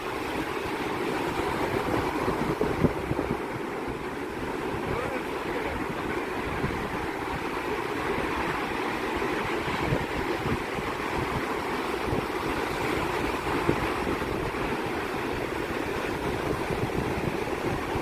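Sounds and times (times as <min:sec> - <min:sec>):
waves breaking: 0:00.0 - 0:18.0
wind buffeting microphone: 0:00.0 - 0:18.0.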